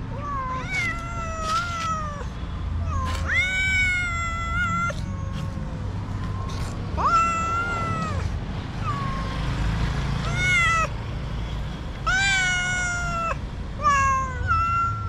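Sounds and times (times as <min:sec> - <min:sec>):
cat meowing: 0:00.1 - 0:09.5, 0:10.2 - 0:11.0, 0:12.0 - 0:15.0.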